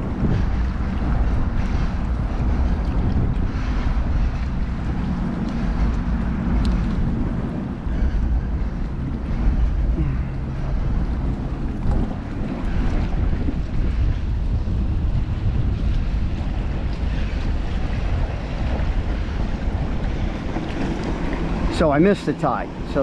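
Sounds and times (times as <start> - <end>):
water slapping against hull: 0.0 - 23.0
wind buffeting microphone: 0.0 - 23.0.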